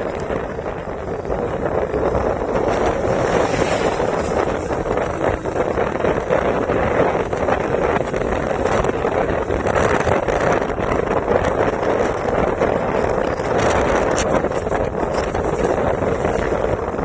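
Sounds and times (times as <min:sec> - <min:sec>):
motorbike and road noise: 0:00.0 - 0:17.0
wind buffeting microphone: 0:00.0 - 0:17.0.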